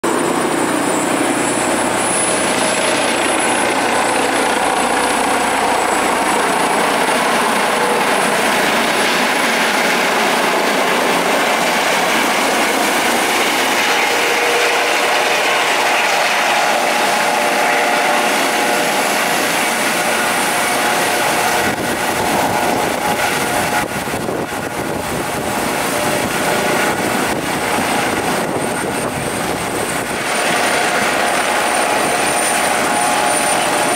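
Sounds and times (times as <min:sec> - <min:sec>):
helicopter rotor noise: 0:00.0 - 0:33.9
helicopter turbine whine: 0:00.0 - 0:33.9.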